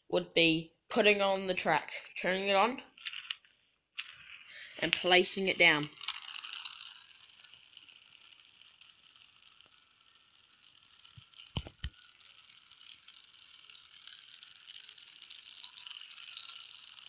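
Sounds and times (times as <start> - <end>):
toy car whirring rattle: 1.7 - 17.0.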